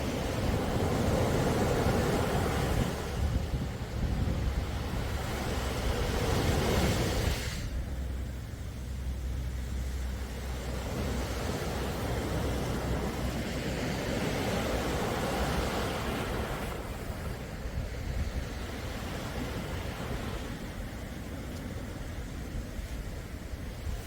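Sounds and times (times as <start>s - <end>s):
calm sea waves washing in: 0.0s - 24.0s
low steady rumble: 0.0s - 24.0s.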